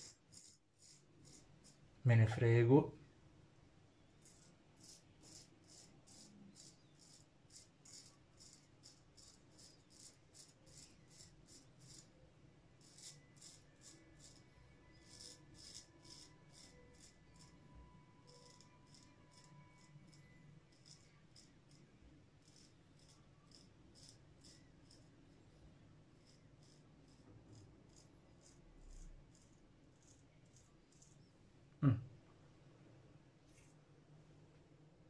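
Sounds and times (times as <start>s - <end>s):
razor scraping beard stubble: 0.0s - 2.0s, 4.1s - 12.2s, 12.8s - 31.3s.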